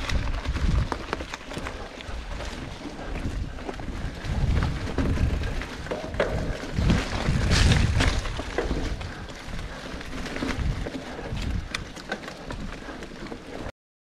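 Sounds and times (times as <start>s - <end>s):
bike rattling: 0.0s - 13.7s
tyres crunching on dirt: 0.0s - 13.7s
wind rumbling on microphone: 0.0s - 13.7s.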